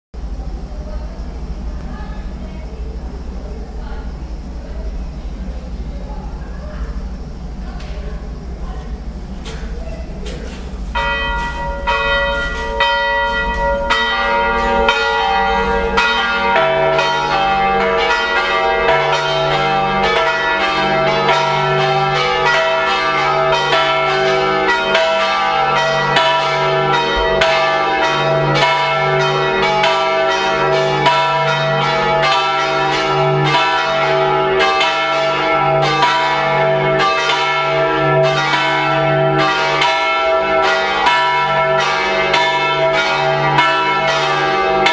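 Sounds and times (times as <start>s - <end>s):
church bells pealing: 0.2s - 44.9s
deep bell ringing: 0.2s - 44.9s.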